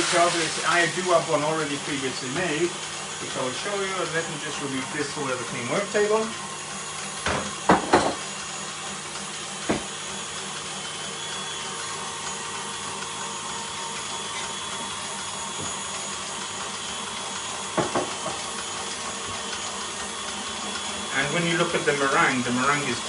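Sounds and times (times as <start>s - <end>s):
stand mixer motor running: 0.0s - 23.0s.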